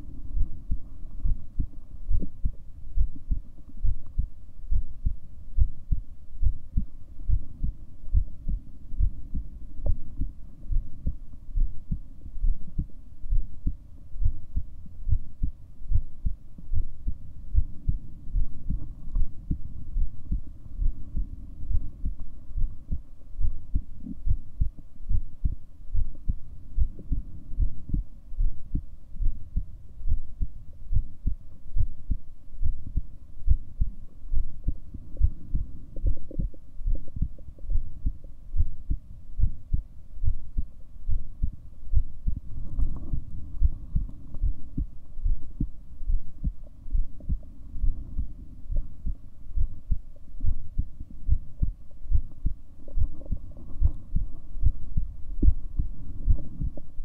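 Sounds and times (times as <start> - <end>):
faint steady hum: 0.0 - 57.0
heartbeat thumps: 0.0 - 57.0.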